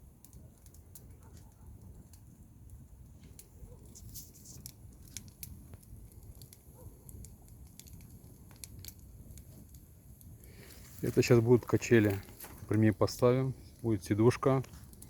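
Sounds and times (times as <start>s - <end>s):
campfire crackling: 0.0s - 15.0s
firewood snapping and popping: 0.0s - 15.0s.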